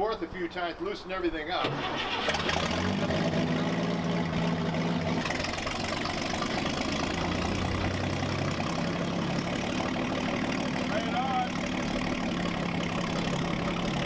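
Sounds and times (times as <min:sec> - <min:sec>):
forklift engine idling: 0:01.7 - 0:14.0.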